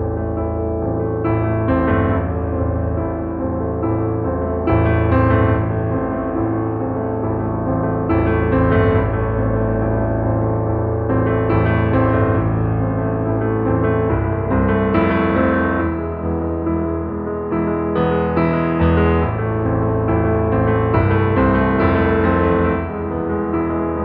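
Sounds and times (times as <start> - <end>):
piano background music: 0.0 - 24.0.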